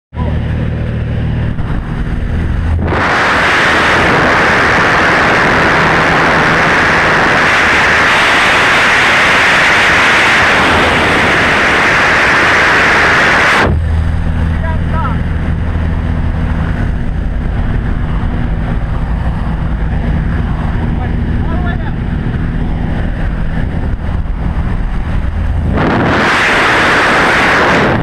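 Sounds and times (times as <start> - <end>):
rush of wind in flight: 0.1 - 28.0
light aircraft engine drone: 0.2 - 28.0.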